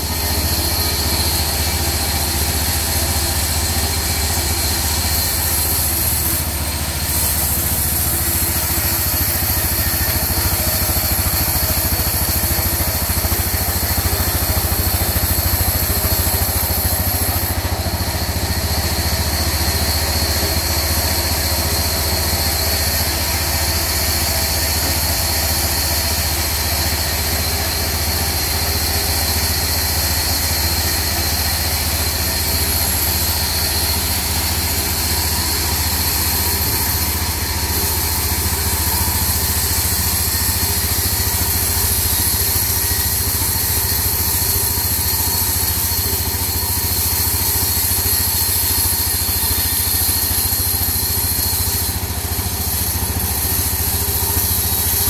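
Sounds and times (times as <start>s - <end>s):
band saw cutting log: 0.0s - 55.0s
diesel engine running: 0.0s - 55.0s.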